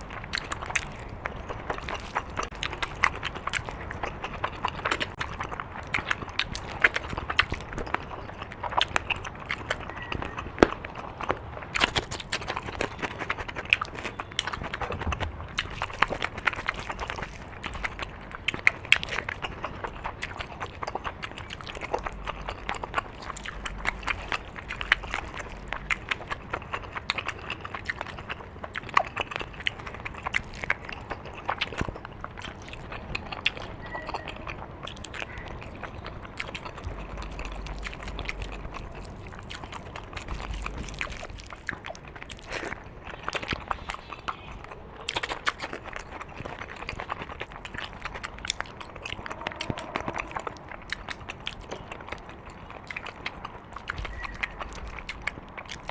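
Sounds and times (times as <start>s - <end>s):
person chewing and lip-smacking: 0.0s - 55.9s.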